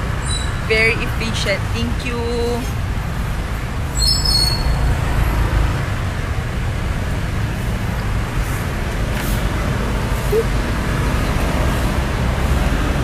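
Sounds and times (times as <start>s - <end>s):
motorcycle engine and road rumble: 0.0s - 13.0s.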